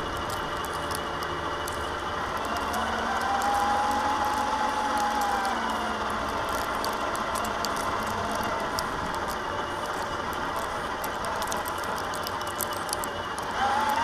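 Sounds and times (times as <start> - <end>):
chassis rattling: 0.0 - 14.0
electric motor and gears whining: 0.0 - 14.0
small clicks and knocks: 0.0 - 14.0.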